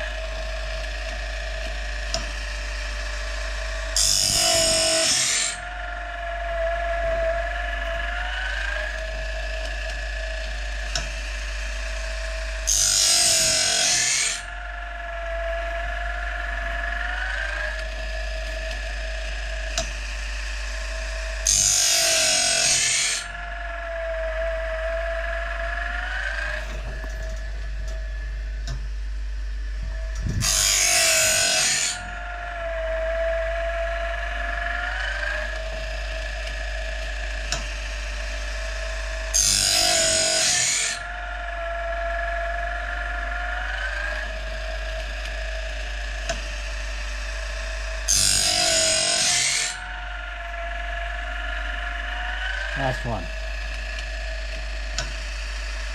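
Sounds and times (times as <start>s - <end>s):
blade grinding: 0.0s - 28.3s, 29.7s - 37.7s, 38.3s - 46.7s, 47.6s - 55.9s
sharpener motor running: 0.0s - 28.8s, 29.5s - 55.9s.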